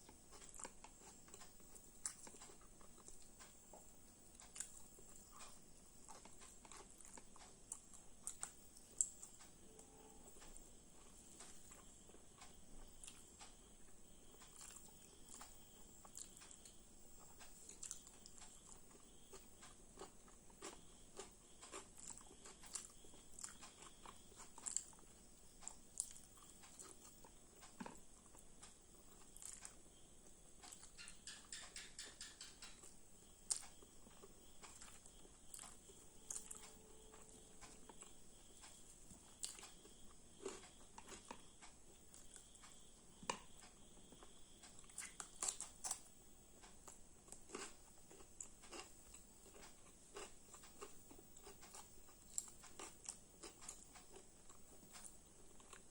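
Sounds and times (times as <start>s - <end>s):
chewing and biting: 0.0s - 3.6s, 4.3s - 13.6s, 14.4s - 29.8s, 33.5s - 55.9s.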